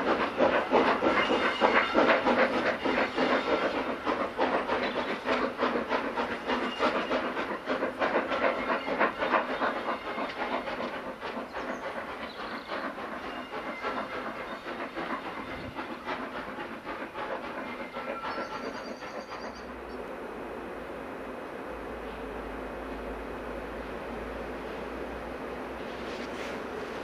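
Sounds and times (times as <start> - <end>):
train wheel clatter: 0.0 - 20.2, 24.3 - 27.0
steam locomotive exhaust beats: 0.0 - 27.0.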